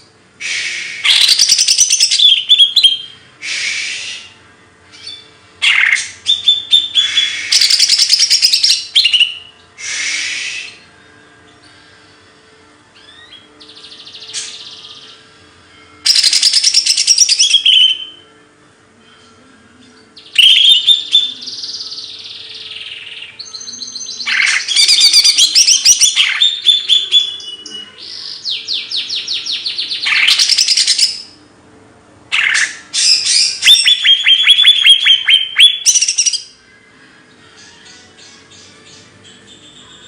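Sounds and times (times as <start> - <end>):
songbird singing: 0.0 - 11.9, 12.9 - 15.4, 16.0 - 18.3, 19.7 - 31.4, 32.3 - 40.0.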